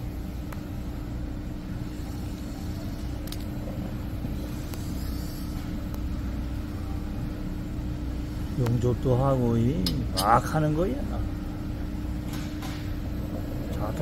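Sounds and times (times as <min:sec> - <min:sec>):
gas torch roaring: 0:00.0 - 0:14.0.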